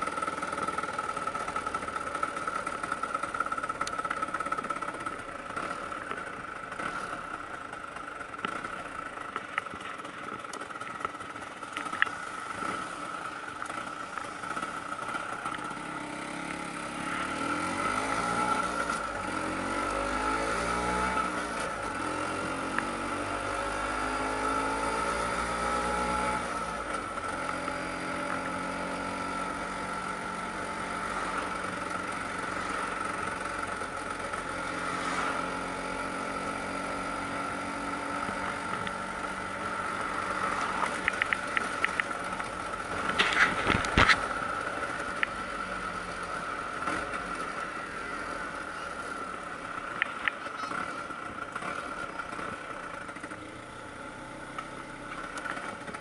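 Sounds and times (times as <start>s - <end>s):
scooter engine accelerating: 0.0s - 56.0s.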